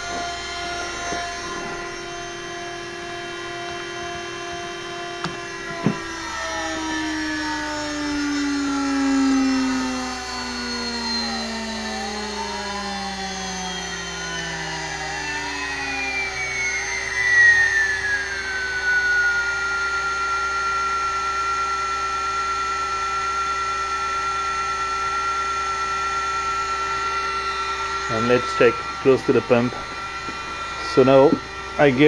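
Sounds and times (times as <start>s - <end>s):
low hum: 0.0s - 32.0s
spindle electric whine: 0.0s - 32.0s.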